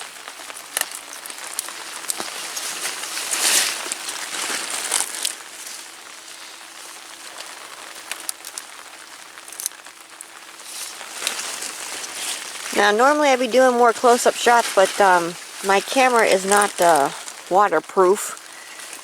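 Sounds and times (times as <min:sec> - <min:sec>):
rain on an umbrella: 0:00.0 - 0:19.0.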